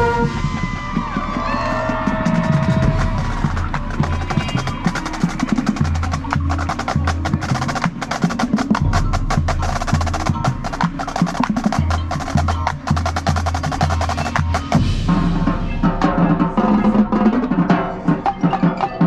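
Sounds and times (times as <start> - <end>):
marching percussion drum and rim strokes: 0.0 - 19.0.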